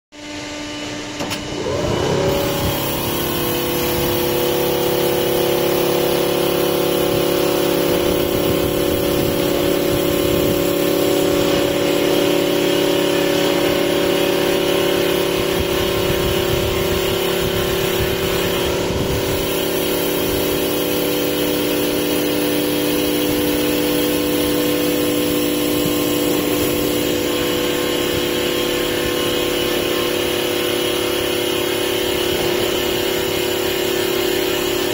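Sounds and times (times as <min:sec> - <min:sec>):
lathe machine hum: 0:00.2 - 0:34.9
wood cutting noise: 0:00.2 - 0:34.9.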